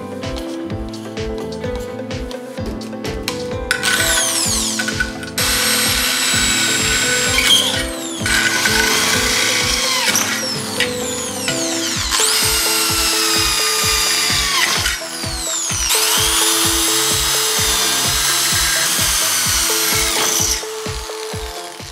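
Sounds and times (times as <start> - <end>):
background music with steady beat: 0.0 - 21.9
electric drill boring through metal: 3.7 - 21.9.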